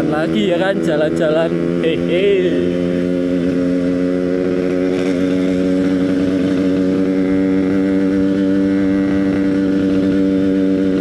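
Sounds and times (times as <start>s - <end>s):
two-stroke motorcycle engine cruising: 0.0s - 11.0s.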